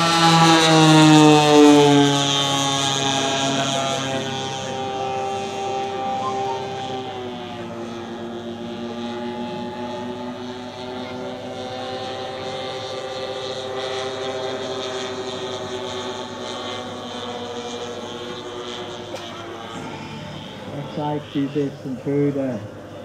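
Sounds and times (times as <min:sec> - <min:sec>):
model plane engines droning: 0:00.0 - 0:23.0.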